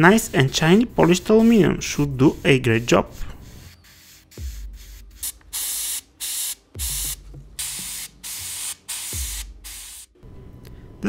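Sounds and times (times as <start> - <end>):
airbrush hissing bursts: 1.1 - 10.2.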